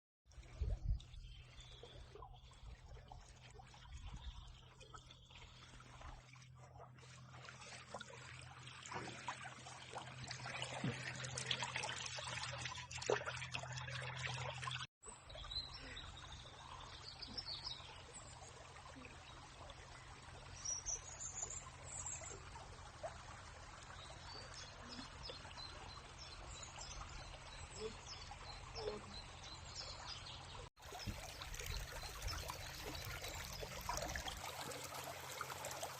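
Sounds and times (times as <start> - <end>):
stream running: 0.3 - 35.9.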